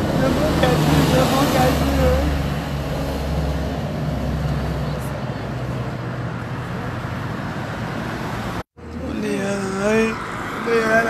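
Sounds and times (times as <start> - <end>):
steady hiss of traffic: 0.0 - 11.0.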